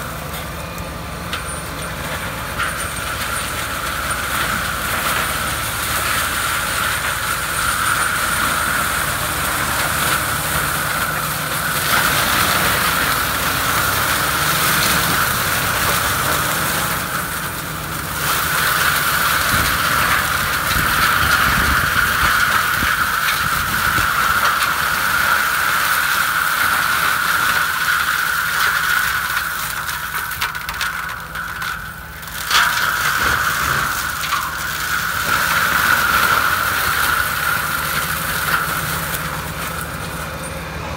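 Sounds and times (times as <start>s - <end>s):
forestry mulcher rotor whining: 0.0s - 40.9s
tractor diesel engine rumble: 0.0s - 40.9s.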